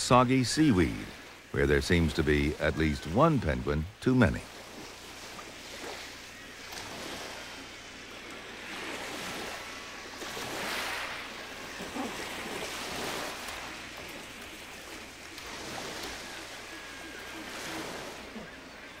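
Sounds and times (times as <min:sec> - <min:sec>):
surf washing against rocks: 0:00.0 - 0:19.0.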